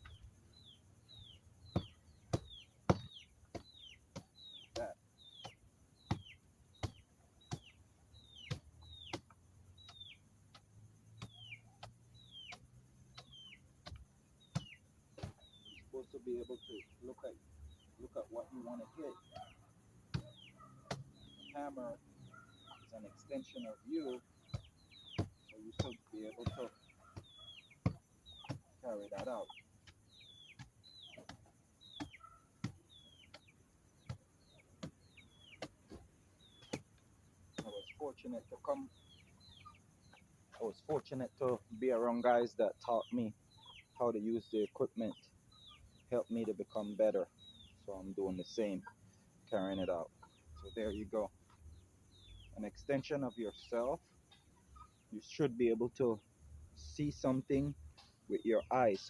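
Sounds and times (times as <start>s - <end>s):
bird peeping: 0.0s - 59.0s.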